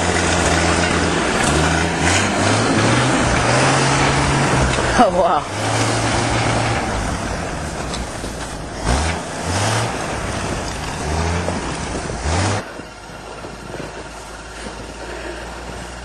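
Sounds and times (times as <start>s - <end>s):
tracked vehicle engine revving: 0.0s - 16.0s.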